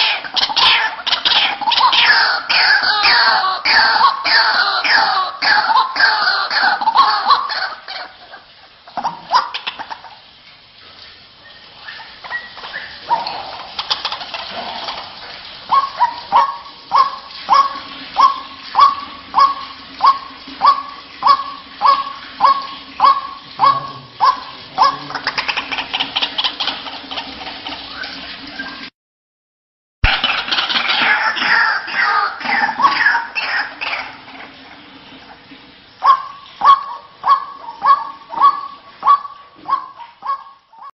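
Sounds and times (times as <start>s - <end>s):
waterhen calling: 0.0s - 28.9s, 30.0s - 40.9s.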